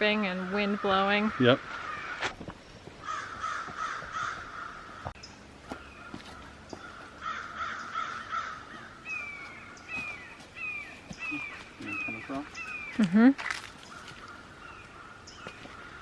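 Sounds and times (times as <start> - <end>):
harsh raspy bird calls: 0.2 - 2.3, 3.0 - 13.0, 13.8 - 16.0.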